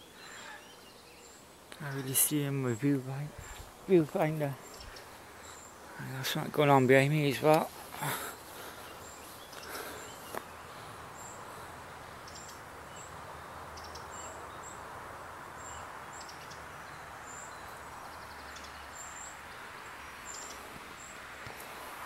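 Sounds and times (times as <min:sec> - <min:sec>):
small bird chirping: 0:00.0 - 0:06.3, 0:08.3 - 0:11.4, 0:12.2 - 0:14.8, 0:15.6 - 0:21.2
steady hiss: 0:00.0 - 0:18.2.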